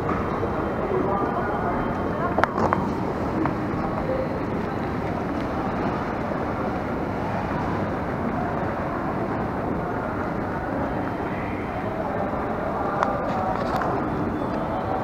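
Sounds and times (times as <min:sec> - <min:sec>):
airport terminal hall rumble: 0:00.0 - 0:15.0.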